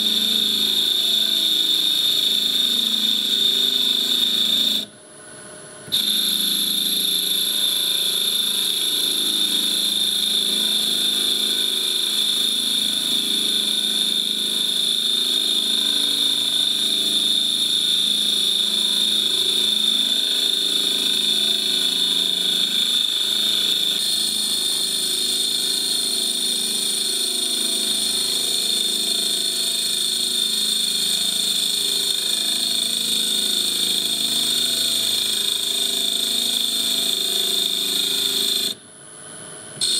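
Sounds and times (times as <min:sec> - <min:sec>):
high-pitched machine whine: 0:00.0 - 0:39.9.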